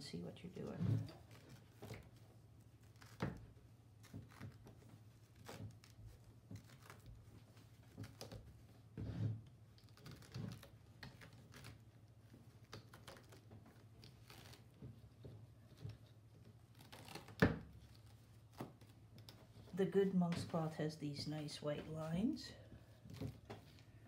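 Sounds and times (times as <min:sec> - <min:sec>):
cloth rustling on pins: 0:00.5 - 0:24.0.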